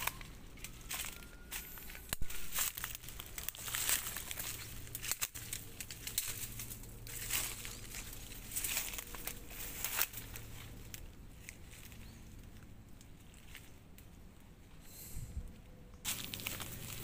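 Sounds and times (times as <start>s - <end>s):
footsteps crunching through undergrowth: 0.0s - 14.3s, 16.0s - 17.0s.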